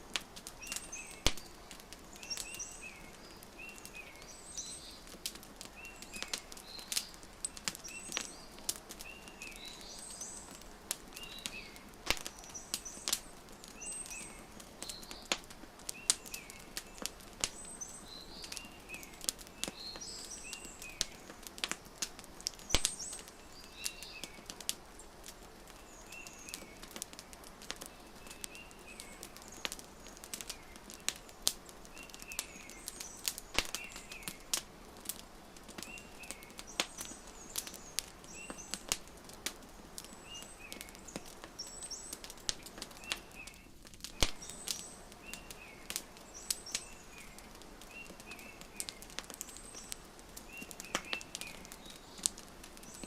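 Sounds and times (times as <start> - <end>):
small birds chirping: 0.0 - 53.0
soft steady hiss: 0.0 - 53.0
wood fire crackling and popping: 0.0 - 53.0.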